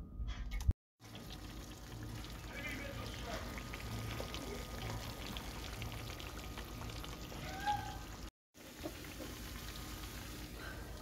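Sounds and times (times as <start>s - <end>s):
potatoes frying in oil: 1.0s - 11.0s.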